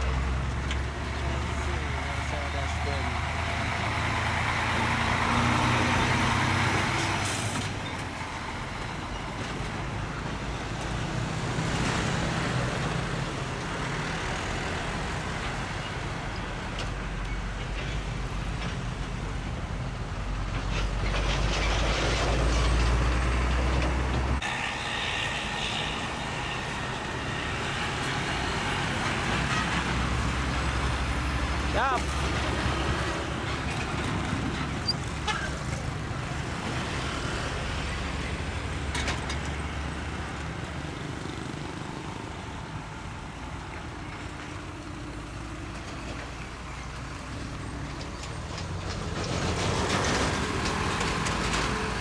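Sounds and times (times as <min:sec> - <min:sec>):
heavy trucks driving past: 0:00.0 - 0:52.0.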